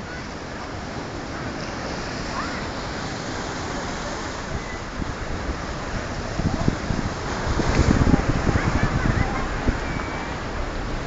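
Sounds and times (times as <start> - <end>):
waves washing against rocks: 0.0 - 11.0
wind buffeting microphone: 0.0 - 11.0.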